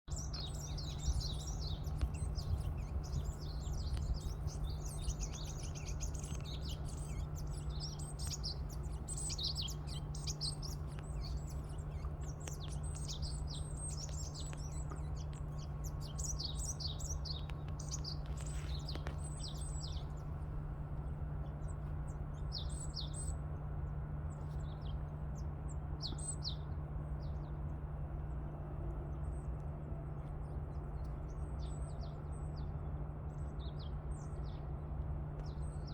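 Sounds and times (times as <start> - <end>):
songbirds chirping and twittering: 0.0 - 35.9
steady low hum: 0.1 - 35.9.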